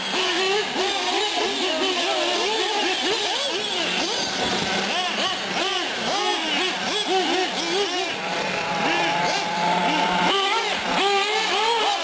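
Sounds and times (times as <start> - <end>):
model car engines revving: 0.0 - 12.0.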